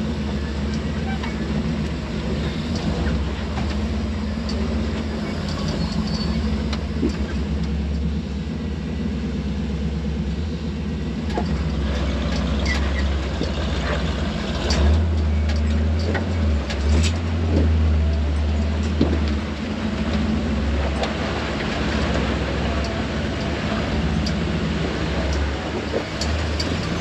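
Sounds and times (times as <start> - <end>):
truck engine running at low speed: 0.0 - 27.0.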